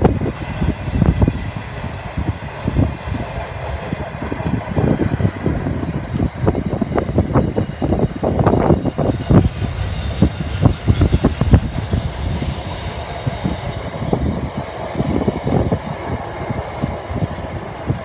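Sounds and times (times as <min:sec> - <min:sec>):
freight train wagons rolling: 0:00.0 - 0:18.0
wheels clanking over rails: 0:00.0 - 0:18.0.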